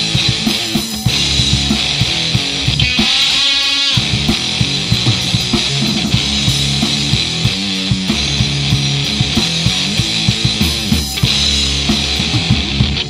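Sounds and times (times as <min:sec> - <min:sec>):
drum kit with cymbals: 0:00.0 - 0:13.0
electric guitar riff: 0:00.0 - 0:13.0.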